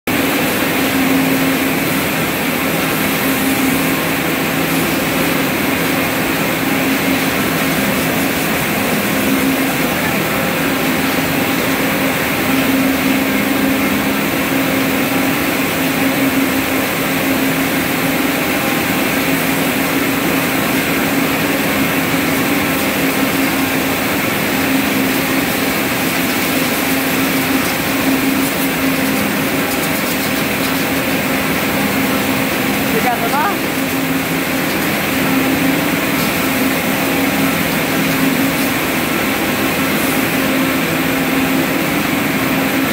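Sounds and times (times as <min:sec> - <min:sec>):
spinning machinery whirring: 0:00.1 - 0:42.9.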